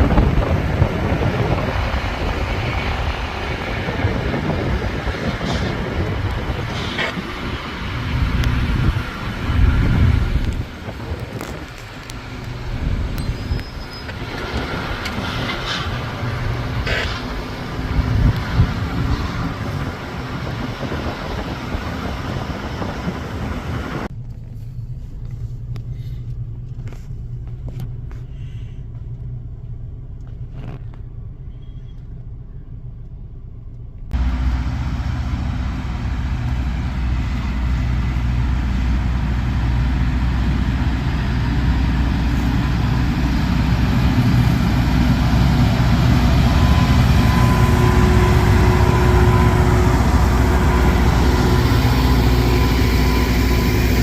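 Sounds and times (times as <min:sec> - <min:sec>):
rail grinder grinding roar: 0:00.0 - 0:24.1, 0:34.2 - 0:54.0
heavy engine rumble: 0:00.0 - 0:54.0.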